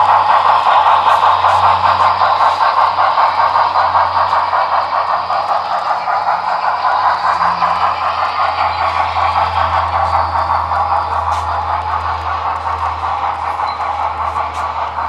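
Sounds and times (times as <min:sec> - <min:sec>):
steam locomotive chuffing from speaker: 0:00.0 - 0:15.0.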